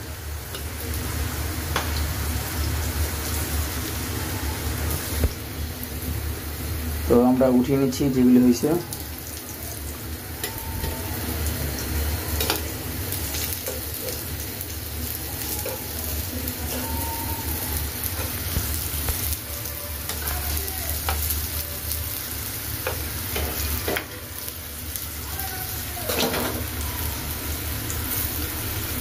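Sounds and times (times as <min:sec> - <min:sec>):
food sizzling in oil: 0:00.0 - 0:29.0.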